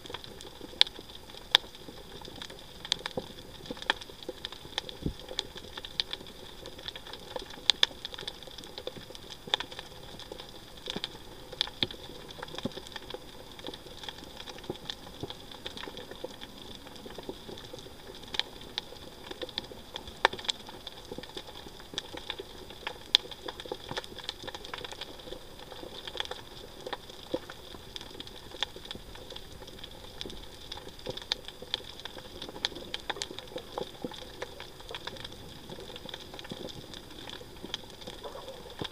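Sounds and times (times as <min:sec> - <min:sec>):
sharp clicks and crackles: 0:00.0 - 0:38.9.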